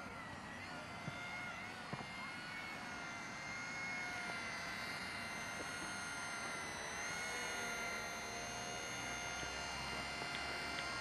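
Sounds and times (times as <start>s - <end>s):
rc helicopter motor whine: 0.0s - 11.0s.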